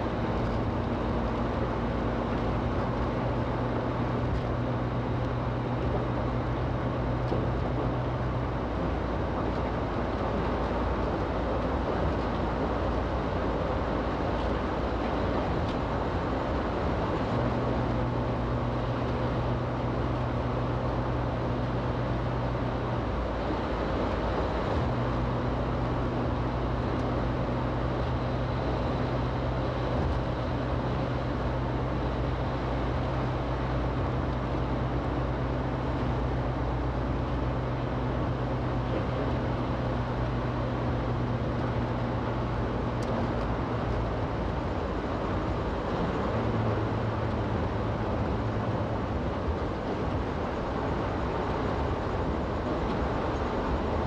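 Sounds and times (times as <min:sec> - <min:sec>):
car road noise: 0:00.0 - 0:54.0.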